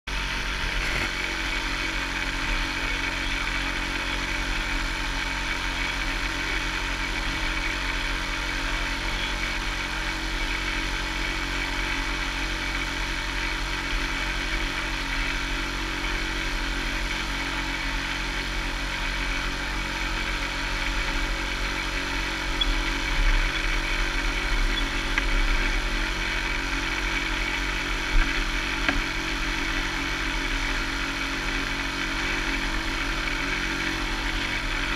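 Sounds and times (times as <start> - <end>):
boat engine running steadily: 0.1 - 34.9.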